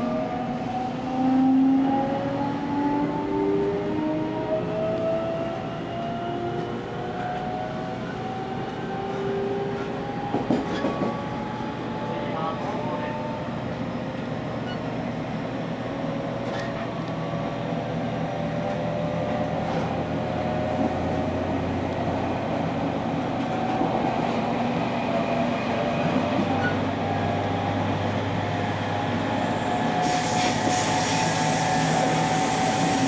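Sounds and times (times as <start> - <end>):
train wheels rumbling on rails: 6.5 - 33.0.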